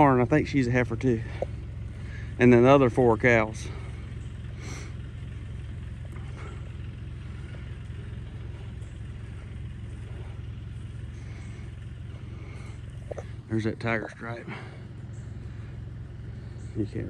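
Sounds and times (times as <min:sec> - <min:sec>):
engine idling rumble: 0:00.0 - 0:17.0.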